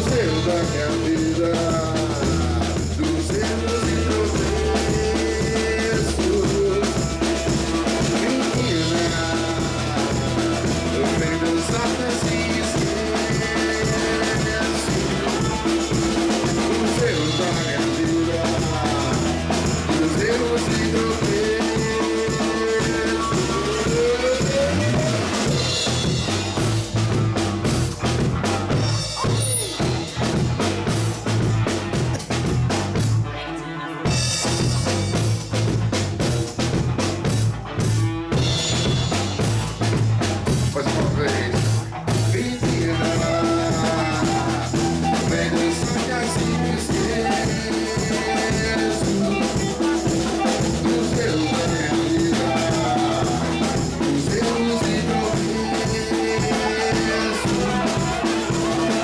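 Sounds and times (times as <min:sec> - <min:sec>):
drum kit beat: 0:00.0 - 0:33.4, 0:34.0 - 0:59.0
bass line: 0:00.0 - 0:59.0.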